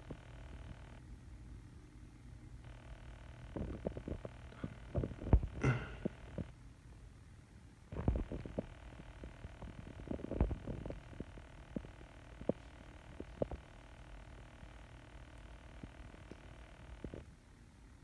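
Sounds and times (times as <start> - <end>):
faint rumble: 0.0 - 6.6, 7.9 - 17.4.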